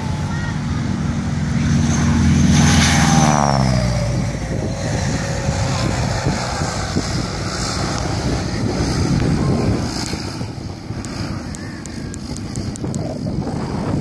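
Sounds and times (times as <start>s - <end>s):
propeller plane passing: 0.0s - 14.0s.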